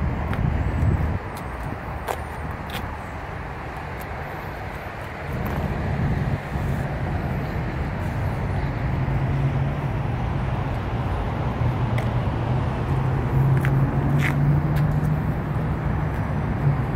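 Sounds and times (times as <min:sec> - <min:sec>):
low engine hum: 0:00.0 - 0:16.9
outdoor background noise: 0:00.0 - 0:16.9.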